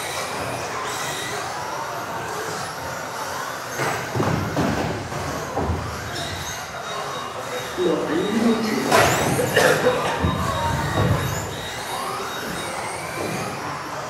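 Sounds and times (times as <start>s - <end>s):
electric motors whining: 0.0s - 14.0s.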